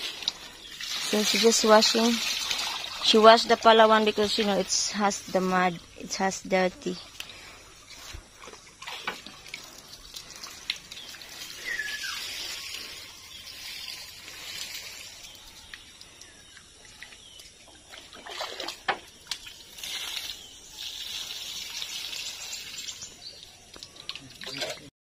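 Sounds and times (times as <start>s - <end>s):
water poured and splashing: 0.0s - 24.9s
water trickling in a stream: 0.0s - 24.9s.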